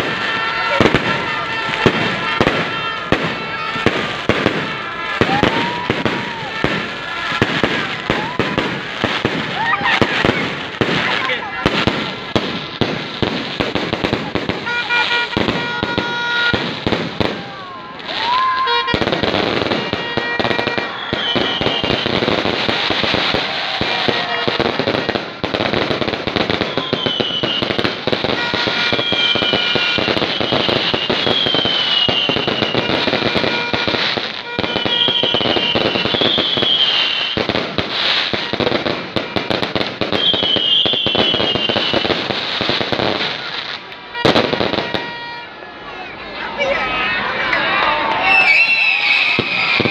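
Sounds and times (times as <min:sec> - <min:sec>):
firework whistles: 0:00.0 - 0:45.5, 0:48.2 - 0:49.9
fireworks bursting and crackling: 0:00.0 - 0:46.6, 0:47.3 - 0:49.9.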